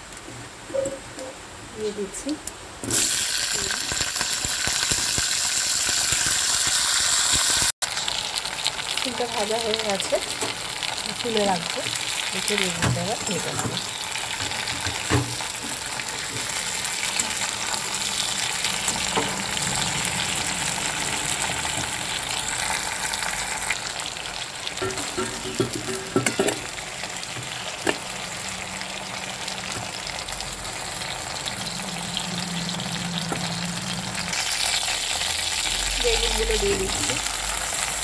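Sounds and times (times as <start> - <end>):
food sizzling in hot oil: 1.8 - 38.0.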